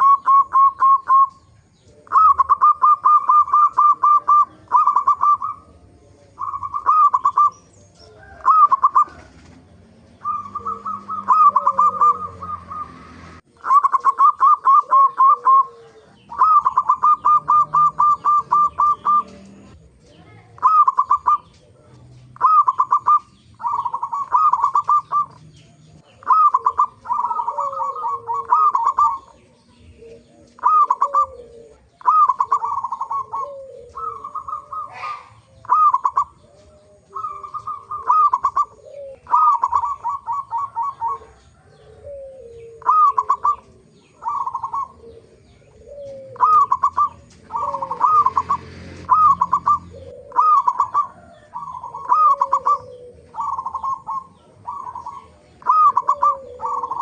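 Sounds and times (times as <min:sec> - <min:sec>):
doves cooing staccato: 0:00.0 - 0:57.0
lower gliding coo: 0:00.0 - 0:57.0.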